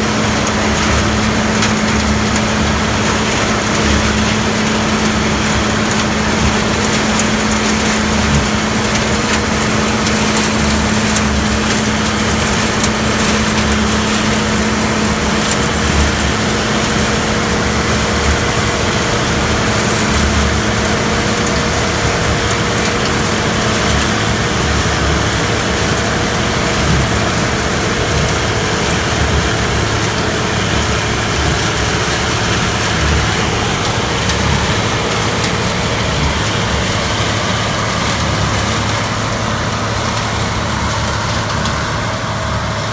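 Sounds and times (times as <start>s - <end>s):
combine engine and machinery drone: 0.0s - 42.9s.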